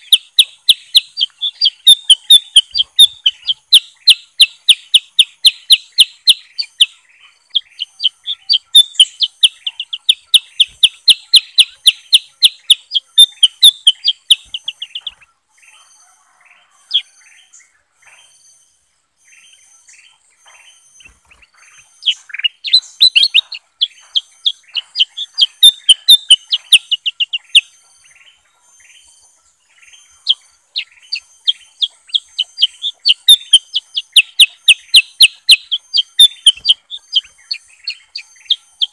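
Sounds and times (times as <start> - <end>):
bulbuls chirping: 0.0 - 38.9.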